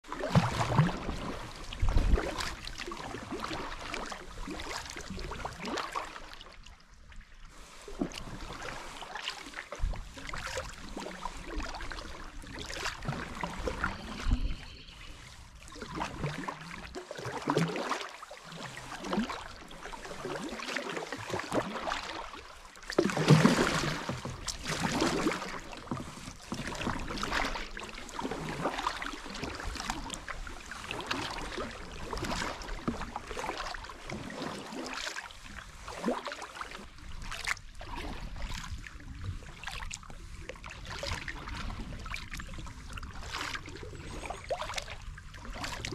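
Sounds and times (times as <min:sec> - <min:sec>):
kayak paddle splashing: 0:00.0 - 0:45.9
water running along hull: 0:00.0 - 0:45.9.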